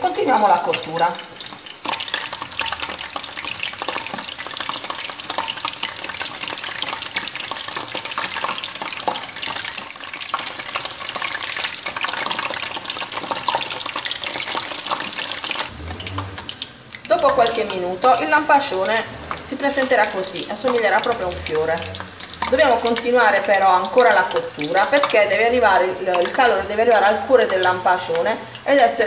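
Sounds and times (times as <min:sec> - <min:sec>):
bulbs deep-frying in oil: 0:00.0 - 0:29.0.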